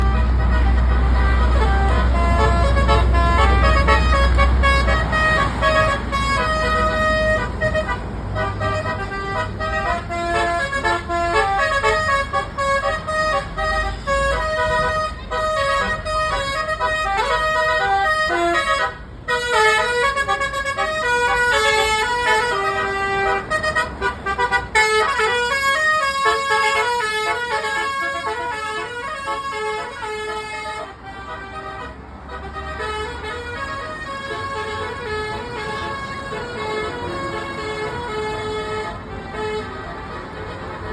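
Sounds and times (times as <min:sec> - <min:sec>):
bus air horn melody: 0:00.0 - 0:40.9
bus engine rumble: 0:00.0 - 0:40.9.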